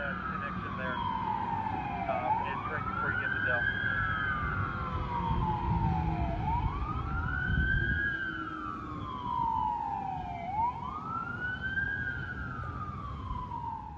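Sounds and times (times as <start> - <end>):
fire engine siren wailing: 0.0 - 13.9.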